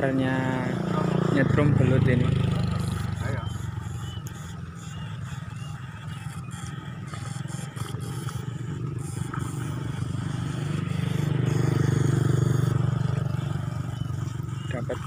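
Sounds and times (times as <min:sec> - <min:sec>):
electrofishing shocker buzzing: 0:00.0 - 0:15.0.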